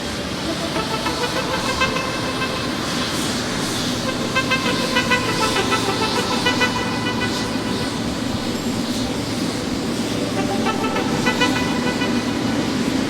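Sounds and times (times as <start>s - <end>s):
jet engines roaring: 0.0s - 13.0s
faint whining tones: 0.3s - 13.0s.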